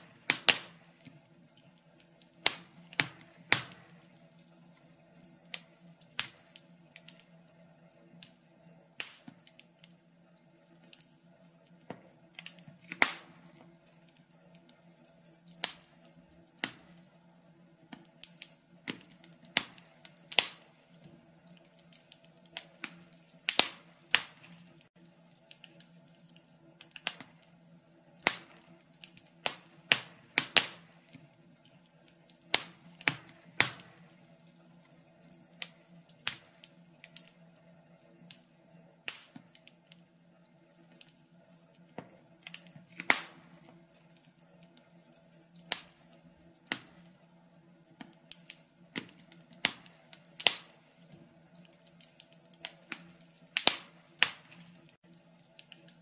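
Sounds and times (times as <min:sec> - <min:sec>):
logs crackling in fireplace: 0:00.0 - 0:56.0.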